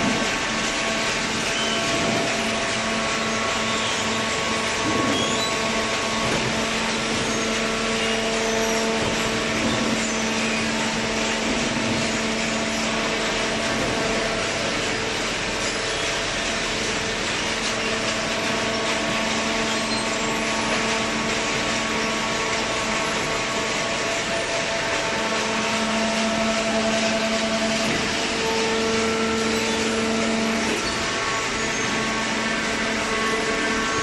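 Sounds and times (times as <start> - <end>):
baler machine humming: 0.0 - 34.0.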